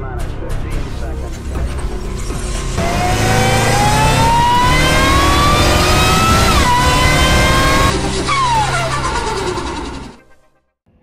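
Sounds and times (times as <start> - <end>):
car engine accelerating hard: 1.4 - 10.3.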